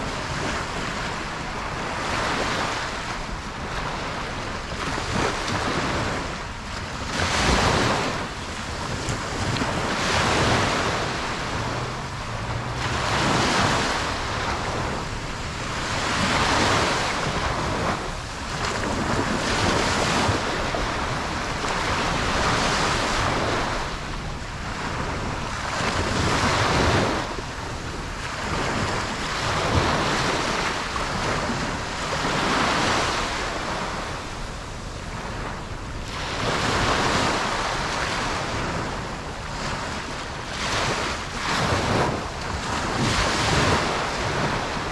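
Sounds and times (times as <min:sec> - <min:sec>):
ocean waves breaking on beach: 0:00.0 - 0:44.9
wind: 0:00.0 - 0:44.9.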